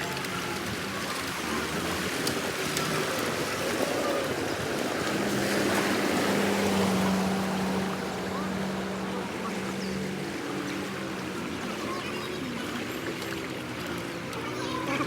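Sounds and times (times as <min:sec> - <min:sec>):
rushing water: 0:00.0 - 0:15.0
wind: 0:00.0 - 0:15.0.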